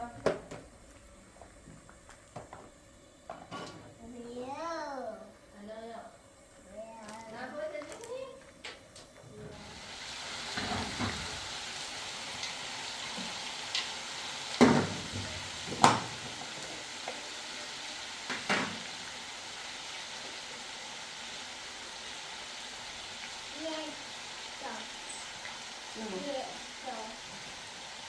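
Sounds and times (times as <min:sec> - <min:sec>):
food sizzling in a pan: 0:03.3 - 0:28.0.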